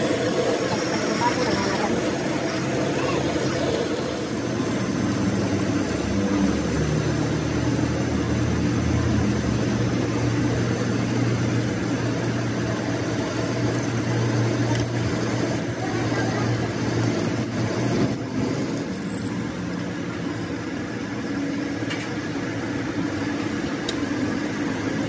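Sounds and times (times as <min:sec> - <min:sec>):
metal lathe humming: 0:00.0 - 0:21.8.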